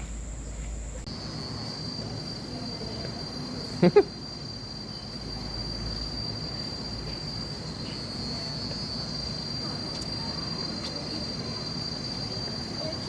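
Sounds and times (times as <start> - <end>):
insects droning high-pitched: 0.0 - 13.0.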